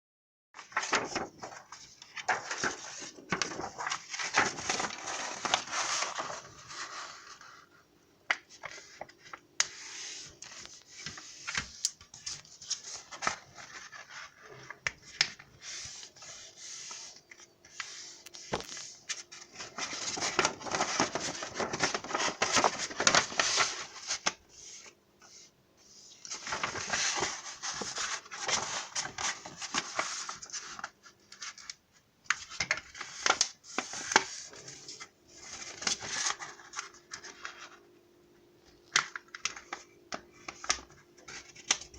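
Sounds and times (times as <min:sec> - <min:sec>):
paper rustling and scraping: 0:00.6 - 0:07.8, 0:08.5 - 0:31.8, 0:32.4 - 0:37.8, 0:38.9 - 0:41.9.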